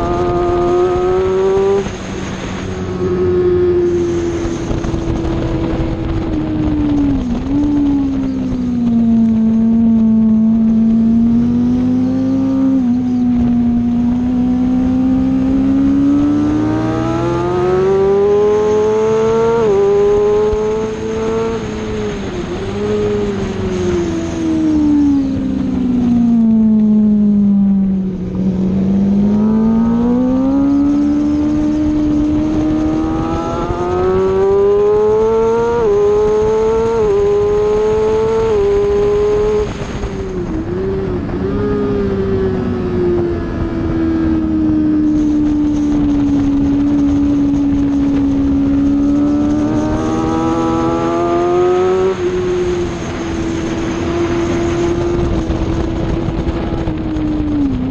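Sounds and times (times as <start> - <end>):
motorcycle engine accelerating: 0.0 - 57.9.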